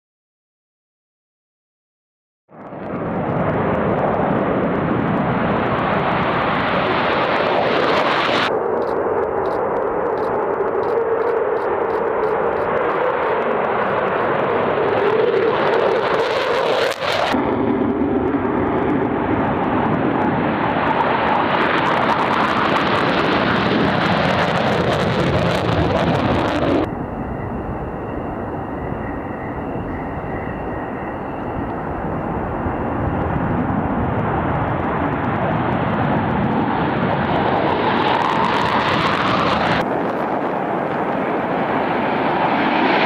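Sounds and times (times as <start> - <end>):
jet engines roaring: 2.5 - 43.0
high steady jet whine: 2.6 - 43.0.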